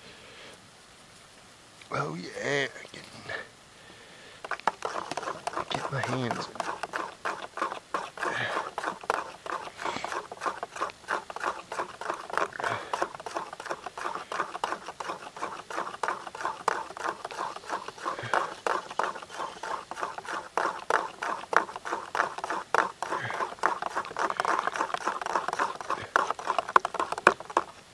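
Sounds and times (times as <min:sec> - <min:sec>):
hands mixing dough: 0:04.4 - 0:27.9.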